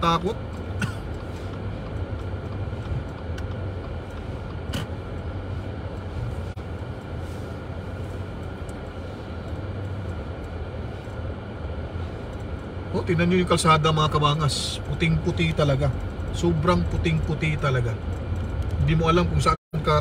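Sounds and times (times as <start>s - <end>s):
car driving on snowy road: 0.0s - 20.0s.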